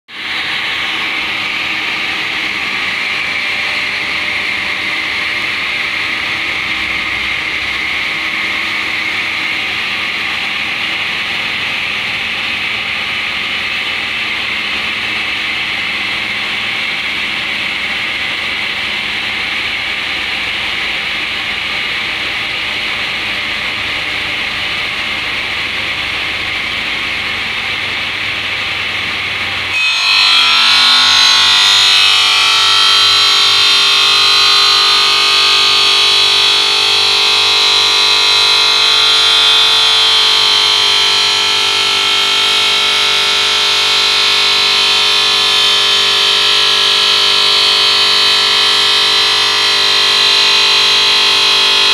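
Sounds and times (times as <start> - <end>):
stone saw blade cutting: 0.1 - 51.9.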